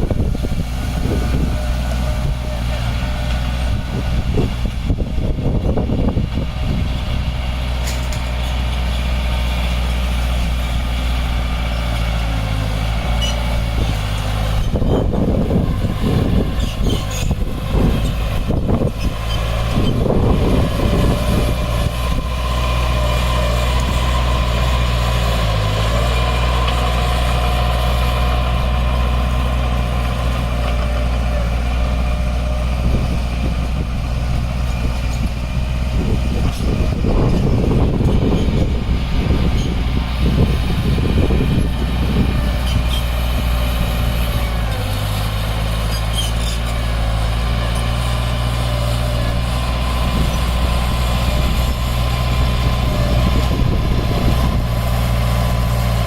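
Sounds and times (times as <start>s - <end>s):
diesel earthmoving equipment running: 0.0s - 56.0s
rumbling and clattering: 0.0s - 56.0s.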